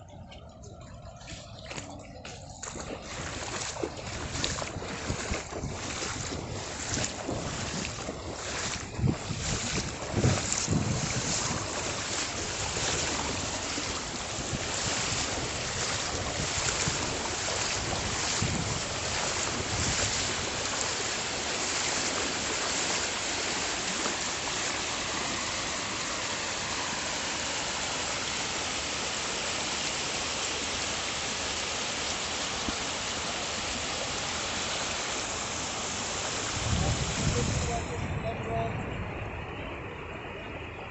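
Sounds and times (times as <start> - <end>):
floodwater rushing: 0.0 - 38.4.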